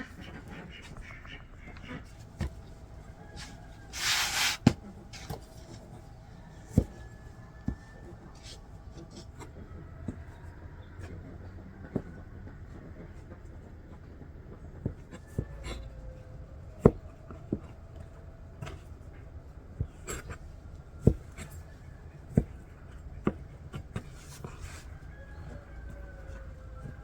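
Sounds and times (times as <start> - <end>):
faint steady background noise: 0.0 - 27.0.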